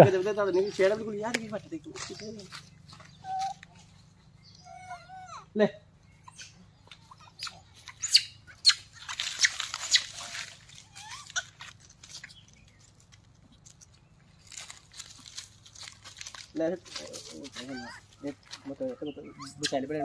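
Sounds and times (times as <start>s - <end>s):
dry leaves rustling underfoot: 0.0s - 4.1s, 6.9s - 20.0s.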